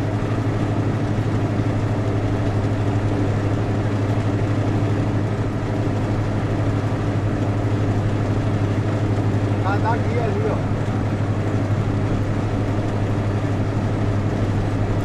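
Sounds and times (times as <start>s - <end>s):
road noise: 0.0s - 15.0s
vehicle engine droning: 0.0s - 15.0s.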